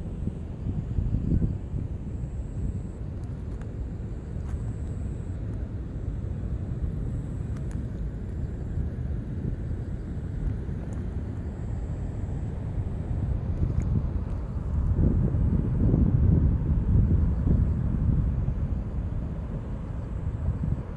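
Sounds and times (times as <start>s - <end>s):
wind on microphone: 0.0s - 5.2s, 6.3s - 20.9s.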